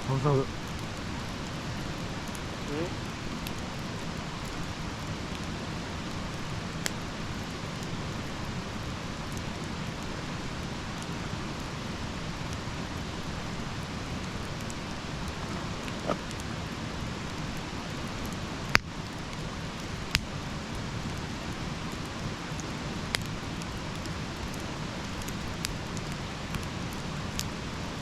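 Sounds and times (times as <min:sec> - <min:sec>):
campfire crackles and pops: 0:00.0 - 0:28.0
campfire hissing: 0:00.0 - 0:28.0.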